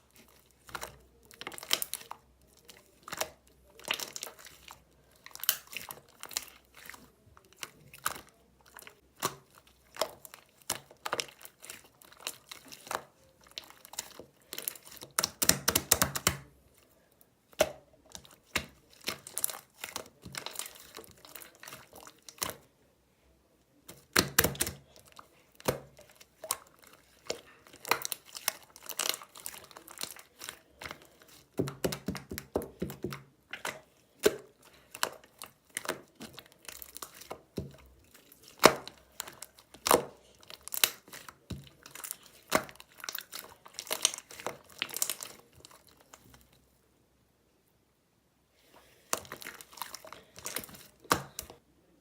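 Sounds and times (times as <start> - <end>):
slime popping and crackling: 0.0 - 16.5, 17.5 - 22.6, 23.9 - 46.6, 49.1 - 51.6.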